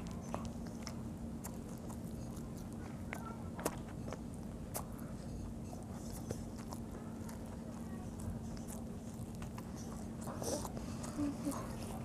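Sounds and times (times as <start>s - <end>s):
child chewing with mouth clicks: 0.0s - 12.0s
steady low hum: 0.0s - 12.0s.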